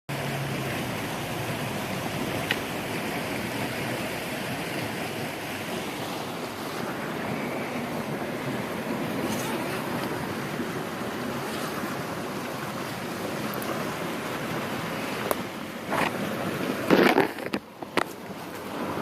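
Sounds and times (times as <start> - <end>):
creek water rushing: 0.1 - 19.0.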